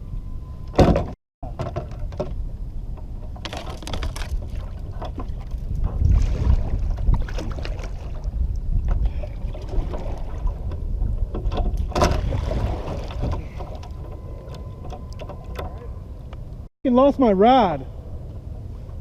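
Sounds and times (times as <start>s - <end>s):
wind on microphone: 0.0s - 16.7s
kayak paddling knocks and water: 0.8s - 16.5s.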